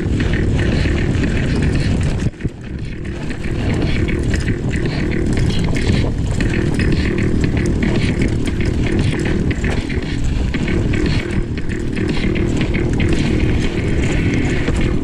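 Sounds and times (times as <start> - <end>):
bike clattering over rough ground: 0.0 - 15.0.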